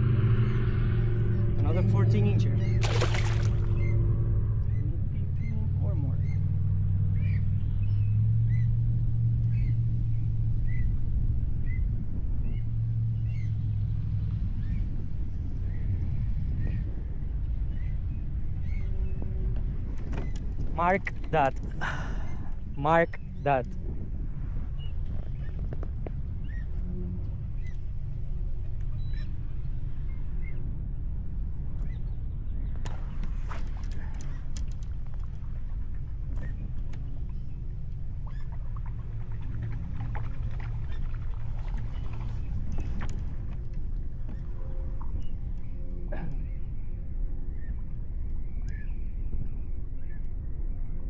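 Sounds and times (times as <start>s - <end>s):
low rumble: 0.0s - 51.0s.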